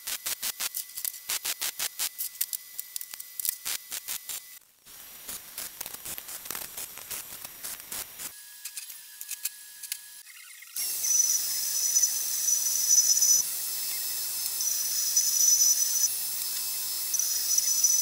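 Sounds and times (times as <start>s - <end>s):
arc welding crackle: 0.0s - 9.0s, 10.8s - 18.0s.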